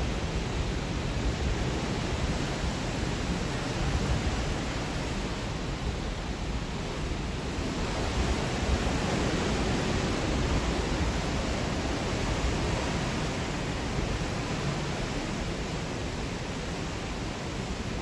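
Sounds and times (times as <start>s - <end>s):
wind rushing across microphone: 0.0s - 18.0s.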